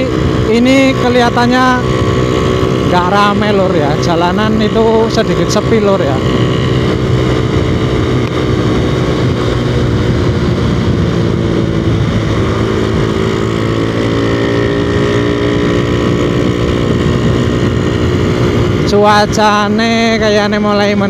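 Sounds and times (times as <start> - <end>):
motorcycle engine cruising: 0.0 - 21.0
wind on microphone: 0.0 - 21.0.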